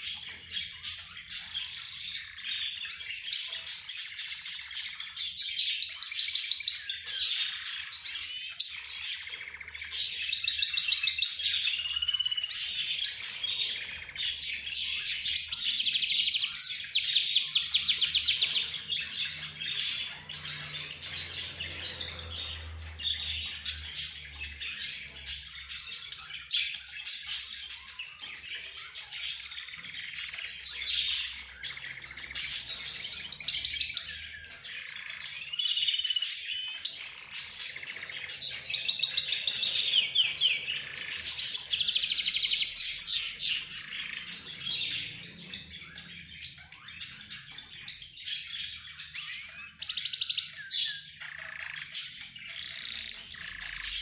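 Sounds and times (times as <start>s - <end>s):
bird trills: 0.0s - 54.0s
cage birds chirping and squawking: 0.0s - 54.0s.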